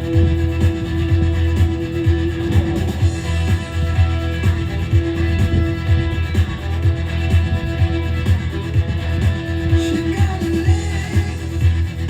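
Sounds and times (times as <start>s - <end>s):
rock music over a speaker: 0.0s - 12.0s.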